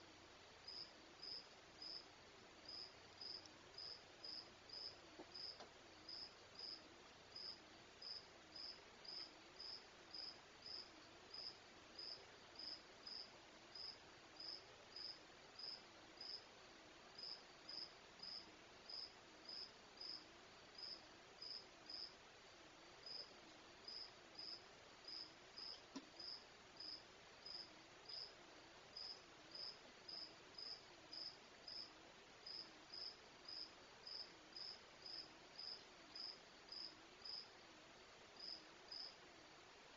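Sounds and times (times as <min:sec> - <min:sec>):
cricket chirping: 0:00.6 - 0:16.5, 0:17.2 - 0:22.2, 0:23.0 - 0:28.4, 0:29.0 - 0:37.5, 0:38.4 - 0:39.2.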